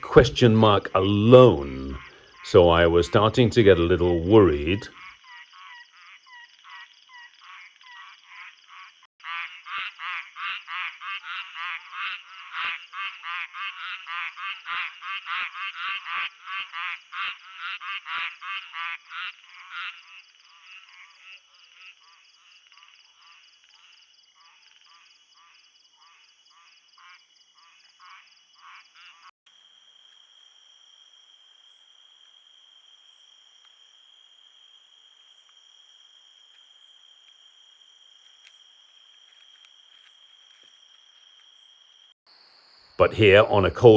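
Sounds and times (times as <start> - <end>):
frogs croaking in chorus: 0.0 - 43.9
high insect trill: 0.0 - 43.9.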